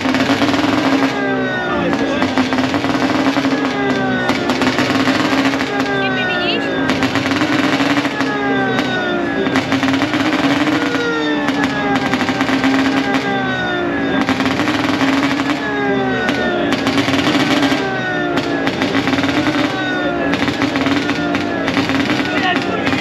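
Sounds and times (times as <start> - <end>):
exhaust crackles and pops: 0.0 - 23.0
racing car engines revving: 0.0 - 23.0.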